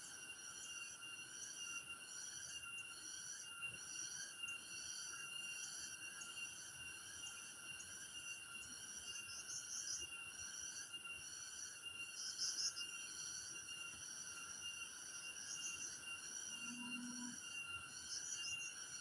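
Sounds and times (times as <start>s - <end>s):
higher pulsing insect call: 0.0s - 19.0s
insects trilling: 0.0s - 19.0s.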